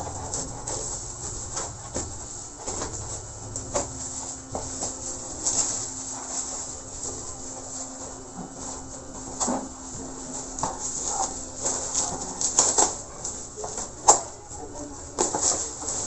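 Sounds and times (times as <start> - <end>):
steady low hum: 0.0 - 16.0
bubble wrap crinkling: 2.6 - 16.0.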